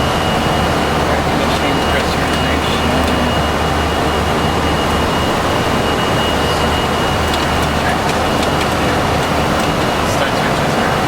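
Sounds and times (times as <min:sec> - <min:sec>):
airflow and engines rushing: 0:00.0 - 0:11.0.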